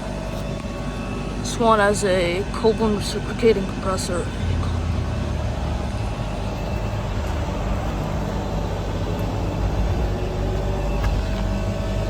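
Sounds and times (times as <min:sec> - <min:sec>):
compressor low hum: 0:00.0 - 0:12.0
condenser fan rushing: 0:00.0 - 0:12.0.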